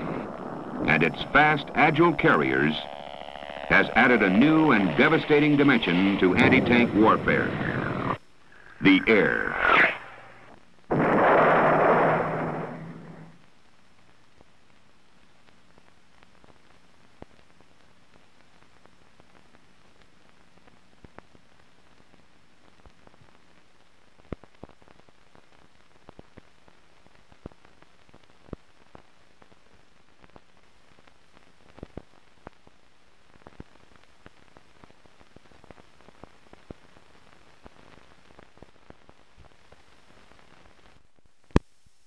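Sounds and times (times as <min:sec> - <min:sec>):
film soundtrack hiss: 0:00.0 - 0:42.0.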